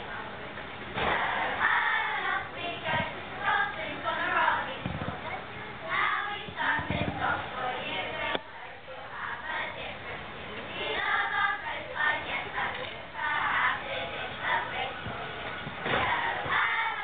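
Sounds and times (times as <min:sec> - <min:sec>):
children singing together: 0:01.0 - 0:08.4, 0:09.1 - 0:17.0.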